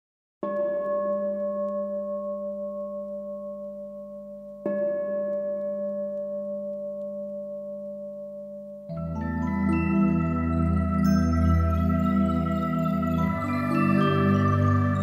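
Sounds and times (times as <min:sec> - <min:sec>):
singing bowl ringing: 0:00.4 - 0:15.0.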